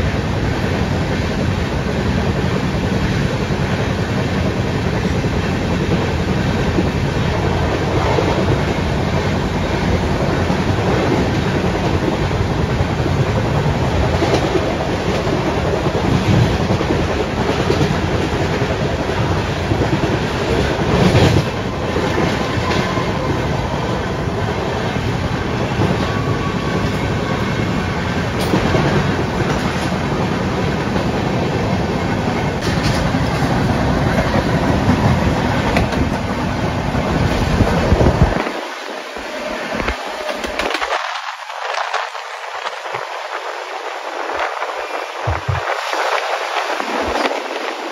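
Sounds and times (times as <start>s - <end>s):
train wheels clattering on rail: 0.0s - 47.9s.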